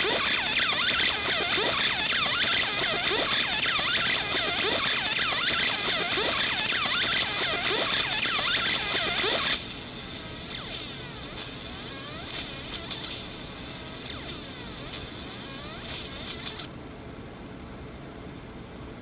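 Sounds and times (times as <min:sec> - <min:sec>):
stepper motors whirring chirps: 0:00.0 - 0:16.7.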